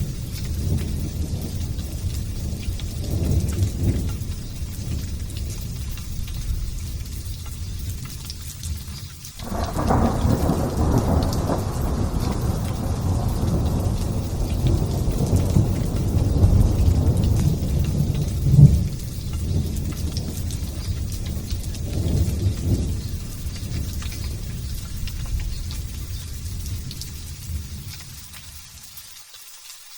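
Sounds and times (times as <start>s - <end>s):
thunder rumbling: 0.0s - 28.6s
light rain hissing: 0.0s - 29.9s.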